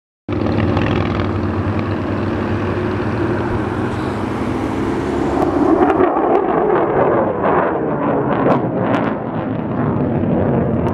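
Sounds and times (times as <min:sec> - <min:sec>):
aircraft engine drone: 0:00.3 - 0:10.9.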